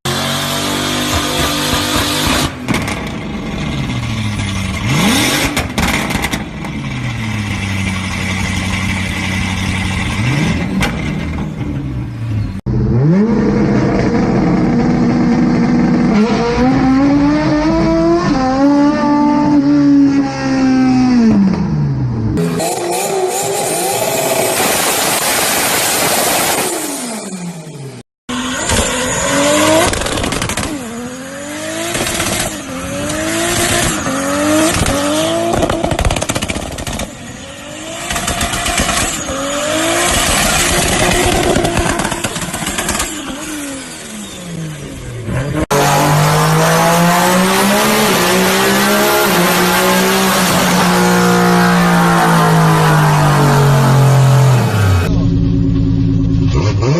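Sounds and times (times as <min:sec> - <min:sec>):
car engines revving: 0:00.1 - 0:56.9.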